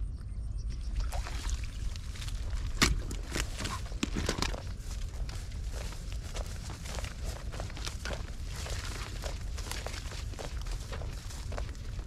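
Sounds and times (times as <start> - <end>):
steady low rumble: 0.0 - 12.0
footsteps through grass: 1.0 - 12.0.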